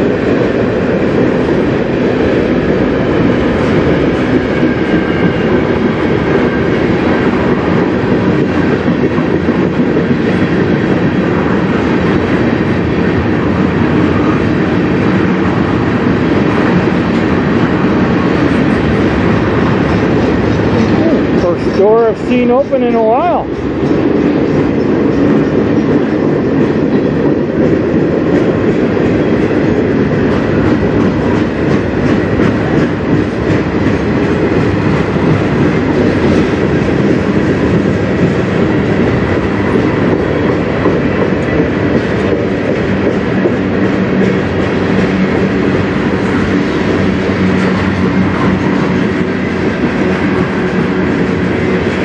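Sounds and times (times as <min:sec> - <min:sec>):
freight train rolling past: 0:00.0 - 0:52.0
wheels clicking on rail: 0:00.0 - 0:52.0.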